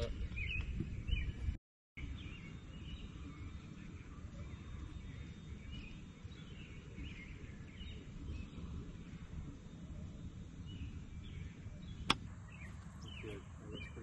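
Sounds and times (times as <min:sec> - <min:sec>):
bird chirping: 0:00.0 - 0:14.0
wind on microphone: 0:00.0 - 0:14.0.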